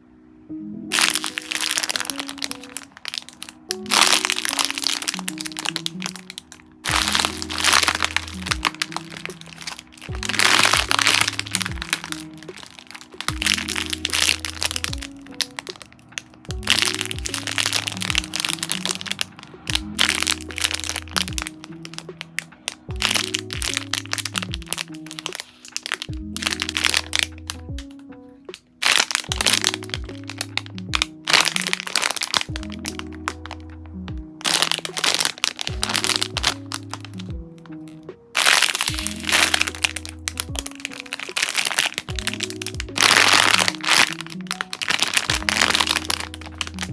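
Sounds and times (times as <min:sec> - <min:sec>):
lo-fi background music: 0:00.0 - 0:46.9
plastic bags crinkling: 0:00.9 - 0:27.5, 0:28.5 - 0:33.6, 0:34.4 - 0:37.3, 0:38.4 - 0:46.9.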